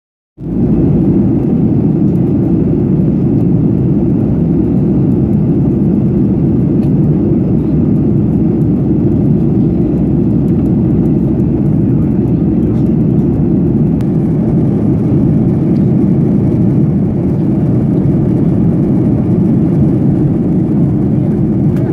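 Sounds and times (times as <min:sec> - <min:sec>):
airplane cabin jet engine rush: 0:00.4 - 0:21.9.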